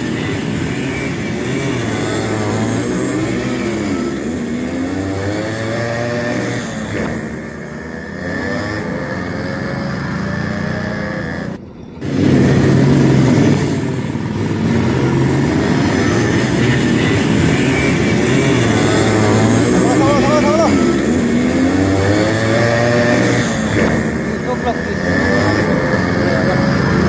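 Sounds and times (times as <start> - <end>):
two-stroke motorcycle engines running: 0.0 - 27.0.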